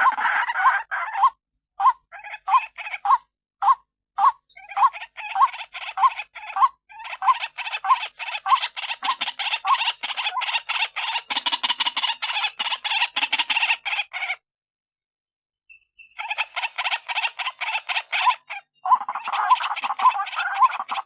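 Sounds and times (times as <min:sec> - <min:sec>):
waterhen calling: 0:00.0 - 0:14.4, 0:16.0 - 0:21.0.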